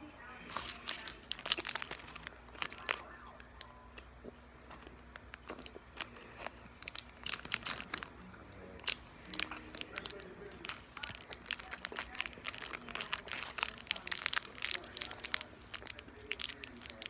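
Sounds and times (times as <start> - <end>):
plastic wrapper crinkling: 0.4 - 4.1, 4.7 - 17.0.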